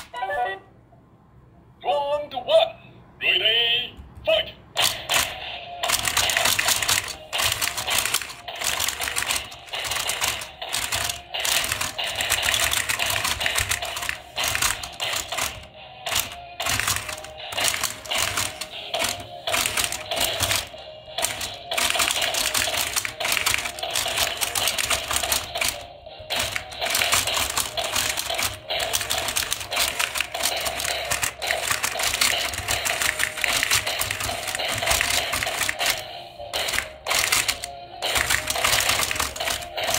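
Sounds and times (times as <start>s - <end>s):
plastic toy clicks and knocks: 4.7s - 39.9s.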